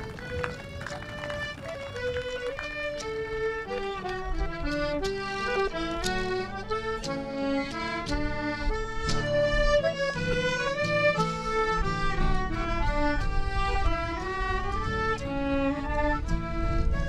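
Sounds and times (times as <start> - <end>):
fiddle melody with accompaniment: 0.0 - 17.0.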